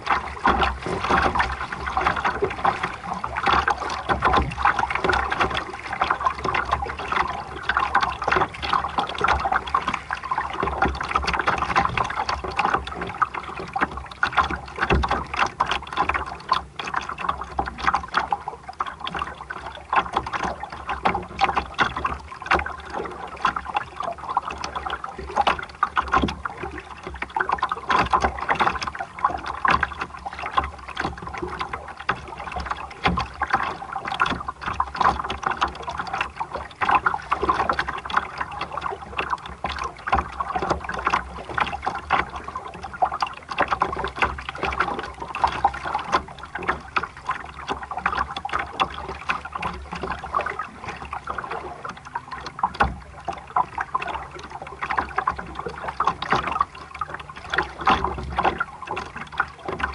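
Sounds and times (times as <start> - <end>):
water splashing against hull: 0.0 - 59.9.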